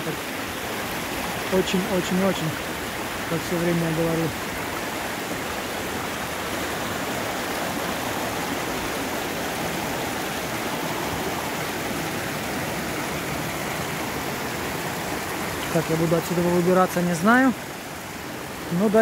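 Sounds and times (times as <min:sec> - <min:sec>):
brook rushing over rocks: 0:00.4 - 0:19.0.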